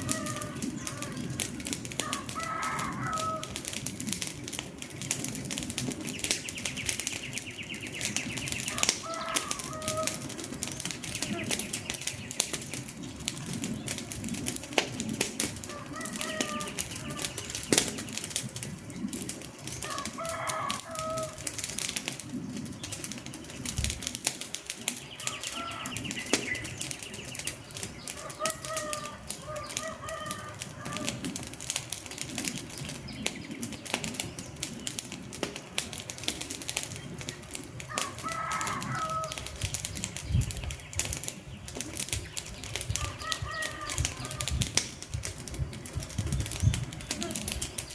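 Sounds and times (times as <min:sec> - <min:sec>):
bird calling: 0:00.0 - 0:03.6, 0:05.9 - 0:14.2, 0:15.4 - 0:21.4, 0:24.8 - 0:31.5, 0:32.3 - 0:45.0, 0:45.7 - 0:47.9
wood fire crackling and popping: 0:00.0 - 0:47.9.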